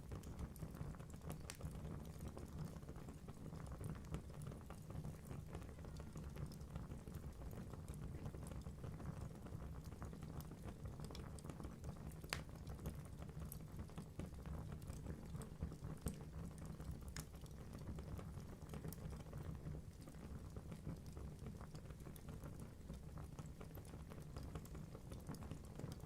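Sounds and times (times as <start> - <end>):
burning logs crackling and popping: 0.0 - 26.0
low rumble of flames: 0.0 - 26.0.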